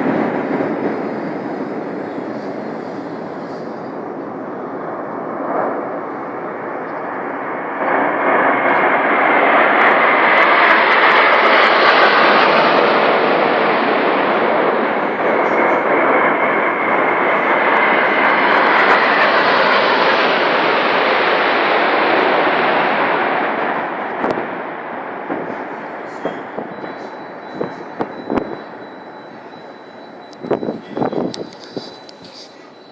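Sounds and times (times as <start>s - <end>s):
military aircraft flying overhead: 0.0s - 32.9s.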